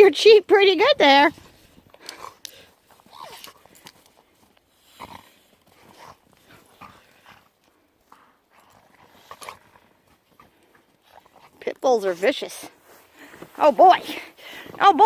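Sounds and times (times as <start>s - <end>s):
dogs play-wrestling: 0.6s - 15.0s.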